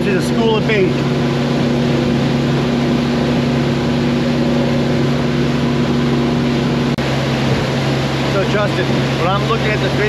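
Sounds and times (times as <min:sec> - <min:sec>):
outboard motor hum: 0:00.0 - 0:10.0
rush of wind and water: 0:00.0 - 0:10.0.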